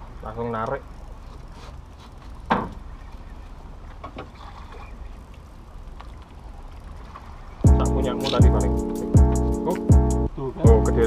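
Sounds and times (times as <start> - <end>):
wind and water rumble: 0.0 - 10.8.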